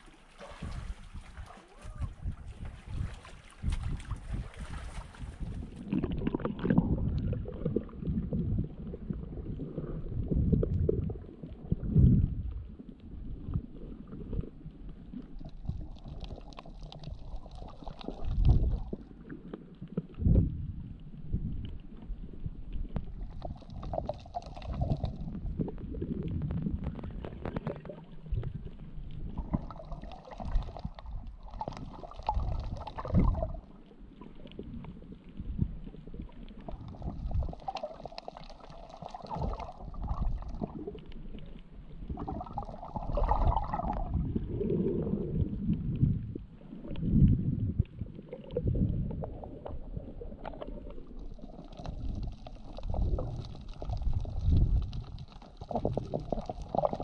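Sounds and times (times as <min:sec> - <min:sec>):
muffled underwater rumbling: 0:00.0 - 0:57.0.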